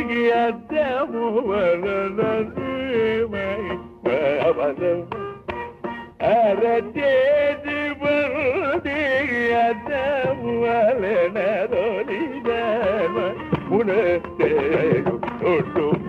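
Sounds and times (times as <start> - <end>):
drum strokes: 1.4 - 6.8, 8.0 - 16.0.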